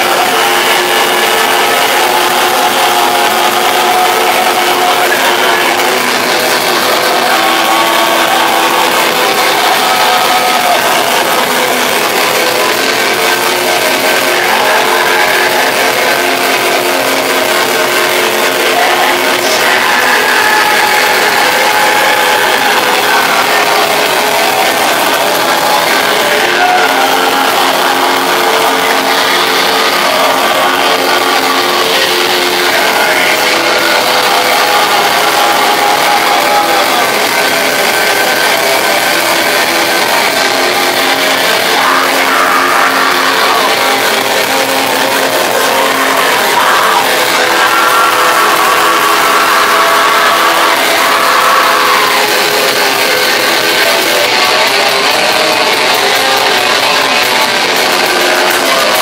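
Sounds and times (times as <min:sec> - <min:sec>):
black metal band playing: 0:00.0 - 0:59.0.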